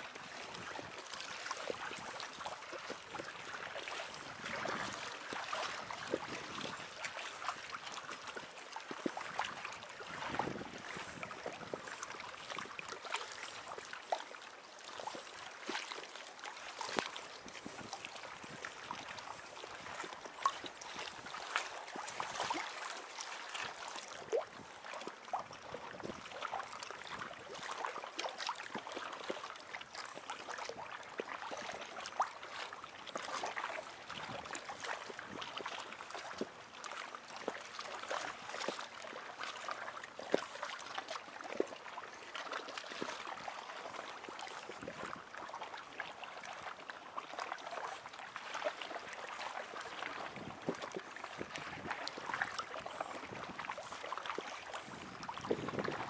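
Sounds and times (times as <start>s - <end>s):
small waves lapping against raft: 0.0s - 56.0s.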